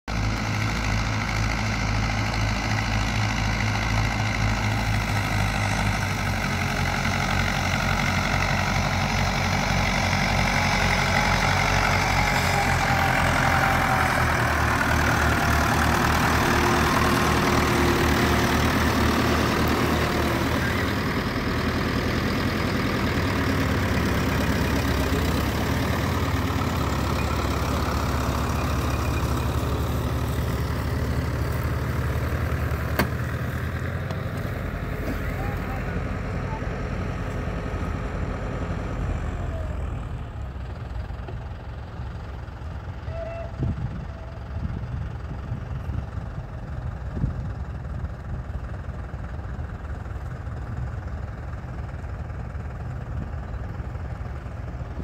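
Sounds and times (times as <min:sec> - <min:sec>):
tractor diesel engines running: 0:00.0 - 0:55.0.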